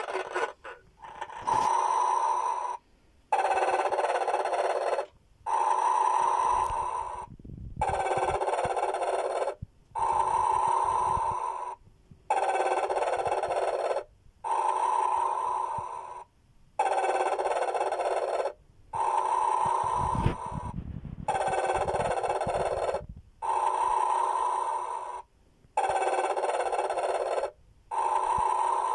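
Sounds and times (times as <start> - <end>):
recorded snoring through small speaker: 0.0 - 28.9.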